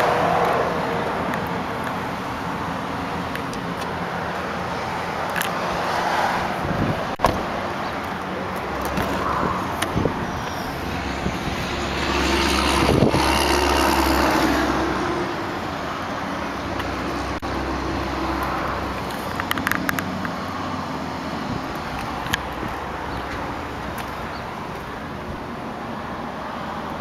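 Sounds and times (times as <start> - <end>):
vehicle passing: 0.0 - 24.9.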